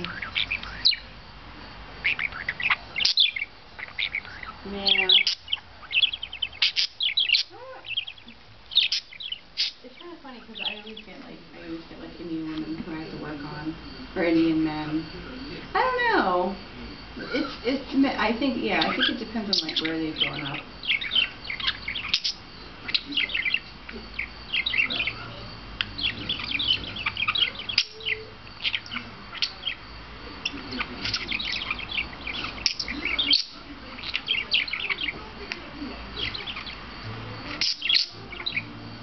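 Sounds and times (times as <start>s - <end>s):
budgerigar chattering: 0.0s - 1.2s, 2.0s - 12.2s, 15.0s - 39.0s.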